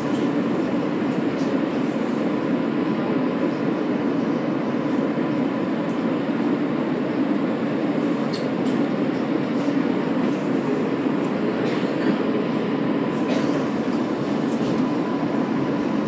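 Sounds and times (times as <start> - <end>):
subway car wheels rumbling: 0.0 - 16.0.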